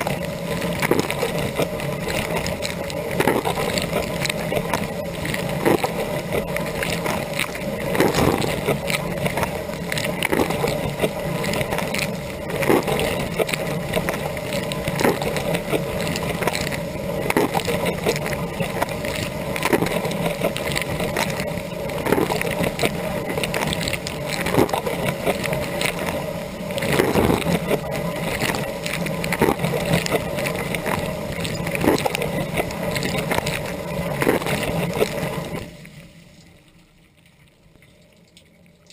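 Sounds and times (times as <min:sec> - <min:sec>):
pump humming: 0:00.0 - 0:38.9
water jets splashing: 0:00.0 - 0:38.9.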